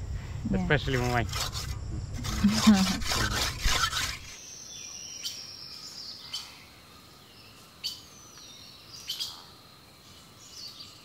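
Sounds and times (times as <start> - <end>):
faint outdoor background: 0.0 - 11.0
birds chirping: 0.3 - 11.0.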